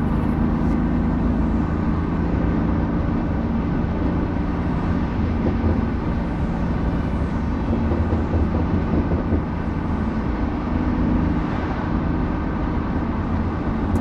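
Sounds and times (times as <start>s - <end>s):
car engine cruising: 0.0s - 14.0s
road and tyre noise: 0.0s - 14.0s.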